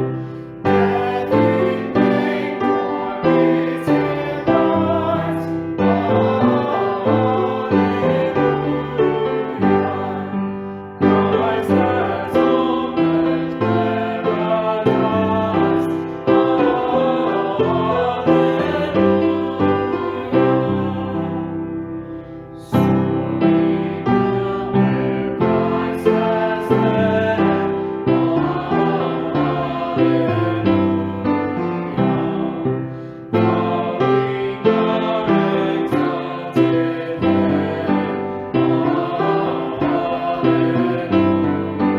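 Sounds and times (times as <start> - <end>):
hymn on piano: 0.0 - 41.9.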